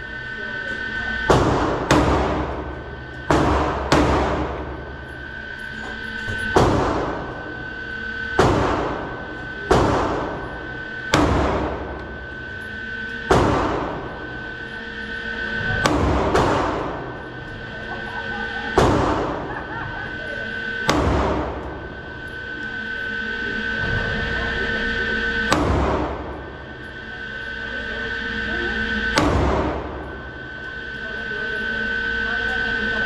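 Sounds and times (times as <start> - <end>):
ventilation hum: 0.0 - 33.0
pistol shots echoing indoors: 0.7 - 23.0, 23.7 - 28.2, 28.9 - 32.2.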